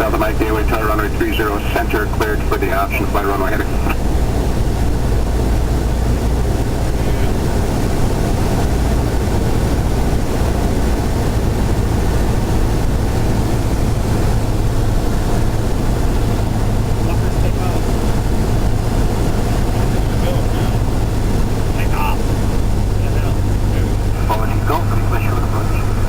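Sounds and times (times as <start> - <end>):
airplane engine droning in cabin: 0.0 - 26.0.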